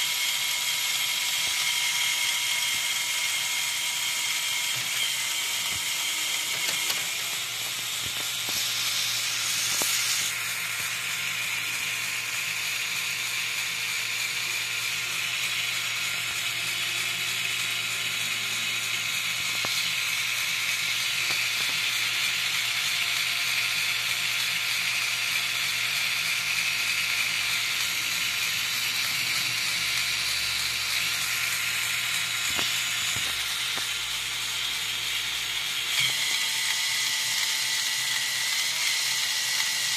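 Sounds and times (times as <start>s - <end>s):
toy motor whirring through gears: 0.0s - 39.9s.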